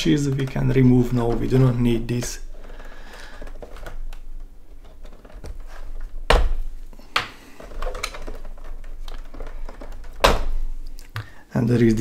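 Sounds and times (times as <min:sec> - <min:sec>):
plastic clicks and knocks: 0:00.0 - 0:11.4.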